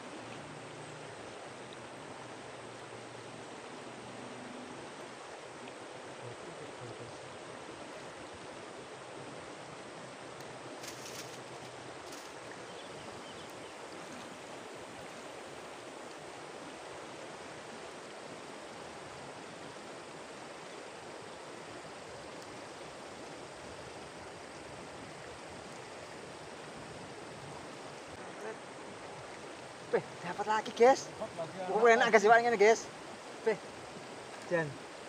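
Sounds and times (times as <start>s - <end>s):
river flowing over stones: 0.0s - 35.0s.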